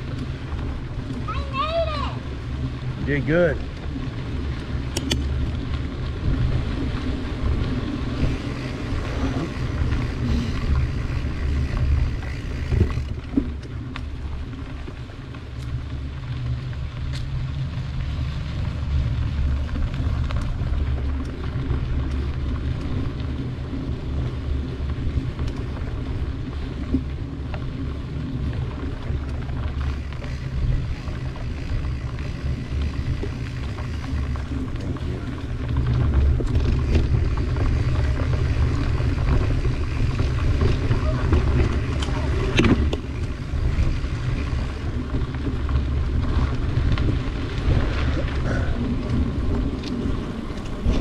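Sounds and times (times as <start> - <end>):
wind buffeting microphone: 0.0 - 13.6, 15.9 - 51.0
bicycle tyres rolling on dirt: 0.0 - 51.0
bike clicks and rattles: 0.0 - 51.0.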